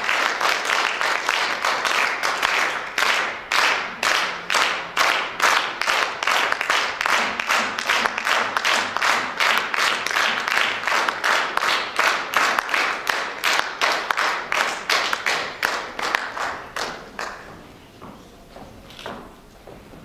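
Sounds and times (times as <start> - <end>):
audience clapping in unison: 0.0 - 17.7.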